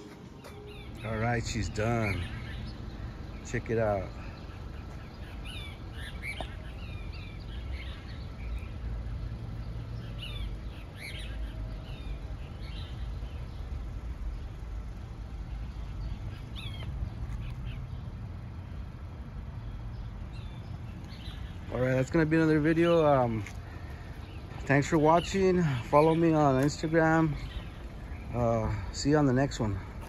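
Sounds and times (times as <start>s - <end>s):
low outdoor rumble: 0.0s - 30.0s
small birds chirping: 0.0s - 30.0s.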